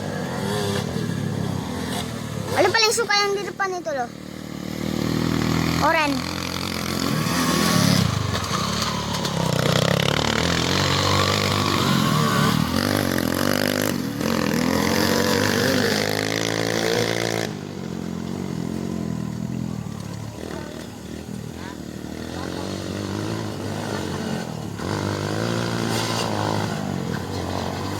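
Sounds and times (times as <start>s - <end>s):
engines revving: 0.0s - 27.9s.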